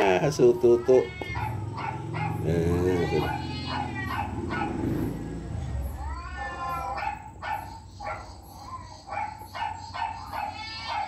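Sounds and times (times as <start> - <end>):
dog whining: 0.0 - 11.0
dog yipping: 0.0 - 11.0.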